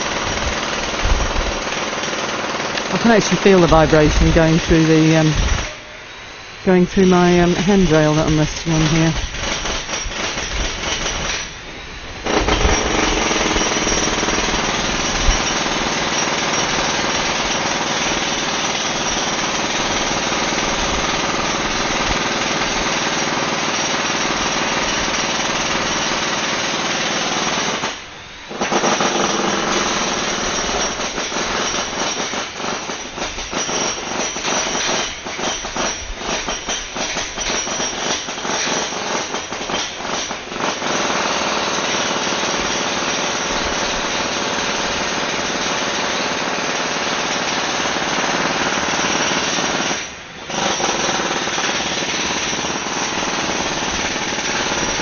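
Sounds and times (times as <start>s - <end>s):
jackhammer hammering: 0.0s - 5.7s, 6.9s - 11.6s, 12.2s - 55.0s.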